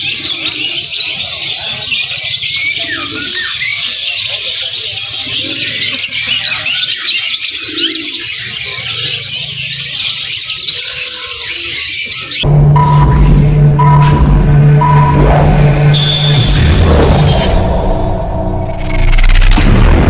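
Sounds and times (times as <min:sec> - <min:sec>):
songbirds chirping and twittering: 0:00.0 - 0:19.2.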